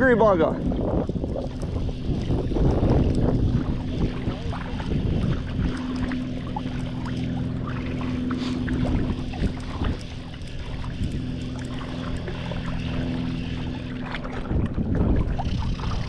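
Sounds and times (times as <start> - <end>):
shallow water sloshing: 0.0 - 16.0
small splashes: 0.0 - 16.0
steady low hum: 0.0 - 16.0
wind on microphone: 0.0 - 16.0.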